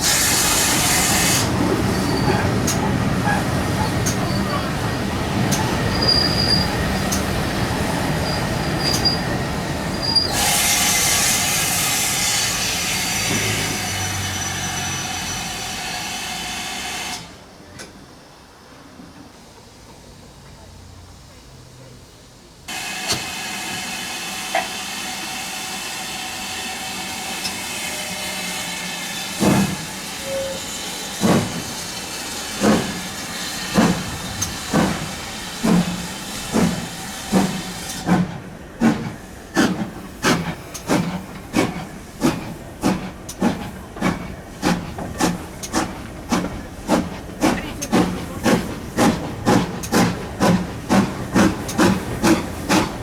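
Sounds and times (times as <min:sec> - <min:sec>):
steam hissing: 0:00.0 - 0:17.4, 0:18.7 - 0:53.0
steam locomotive exhaust beats: 0:00.0 - 0:17.4, 0:22.1 - 0:53.0.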